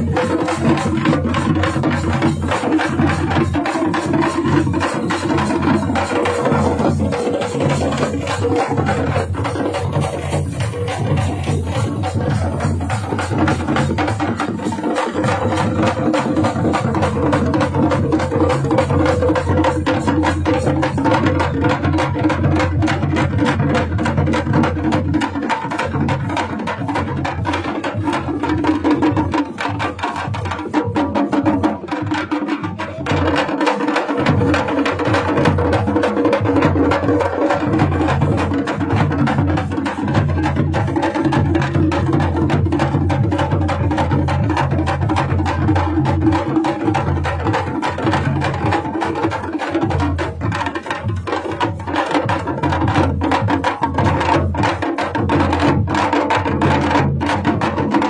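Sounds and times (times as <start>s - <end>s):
frame drums beaten with sticks: 0.0s - 58.0s.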